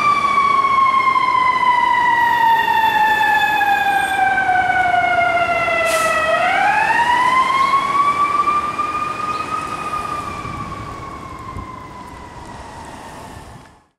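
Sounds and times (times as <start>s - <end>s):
fire engine siren wailing: 0.0s - 13.9s.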